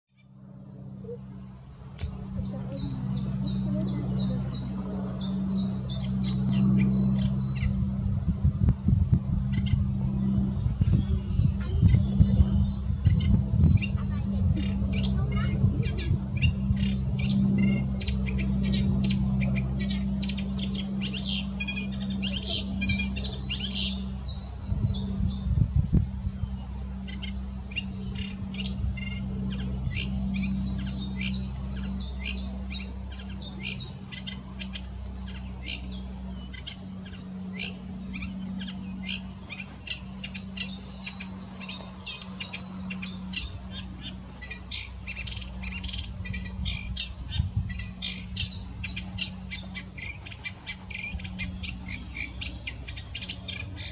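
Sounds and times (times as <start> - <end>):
low hum: 0.1 - 53.9
warbler singing: 0.1 - 53.9.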